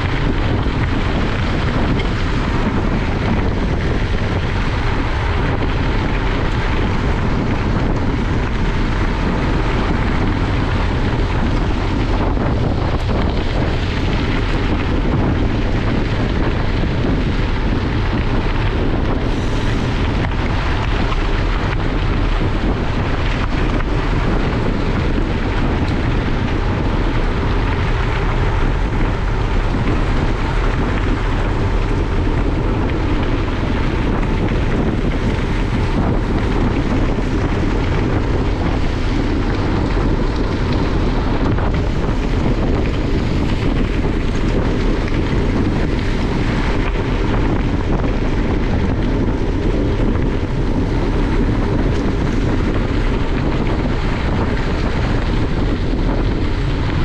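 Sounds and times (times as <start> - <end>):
bicycle tyres rolling on gravel: 0.0 - 57.0
wind rushing over microphone: 0.0 - 57.0.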